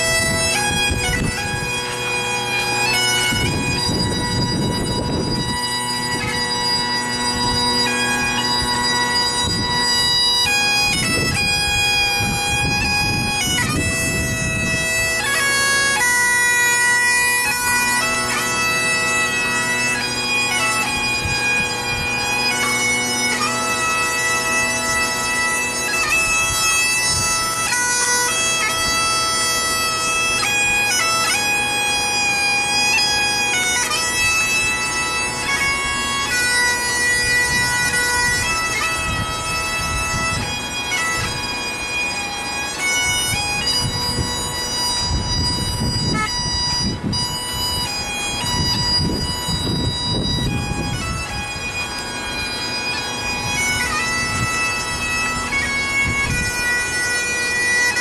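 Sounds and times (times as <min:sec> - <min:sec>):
bagpipe playing slow tune: 0:00.0 - 0:58.0.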